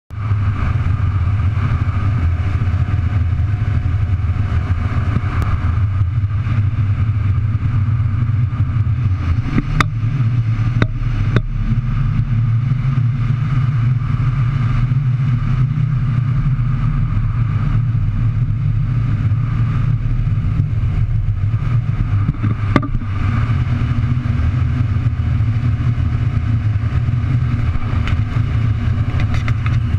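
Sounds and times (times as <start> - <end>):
outboard motor running: 0.1 - 29.9
wind on microphone: 0.1 - 29.9.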